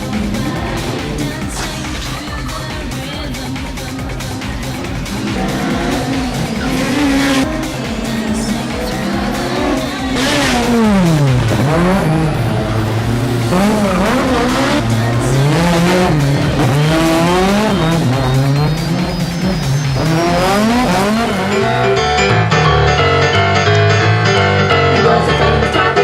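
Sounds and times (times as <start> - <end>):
racing car engines revving: 0.0 - 26.0.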